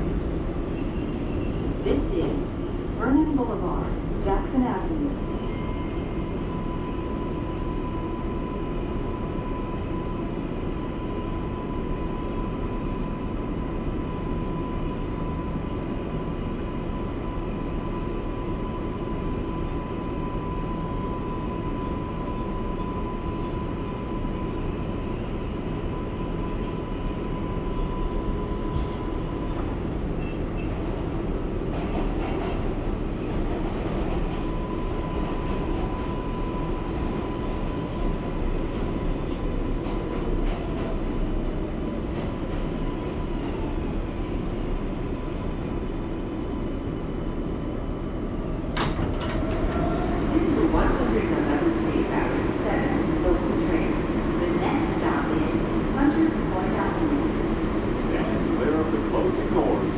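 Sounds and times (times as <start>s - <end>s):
subway car rumble and rail noise: 0.0s - 59.9s.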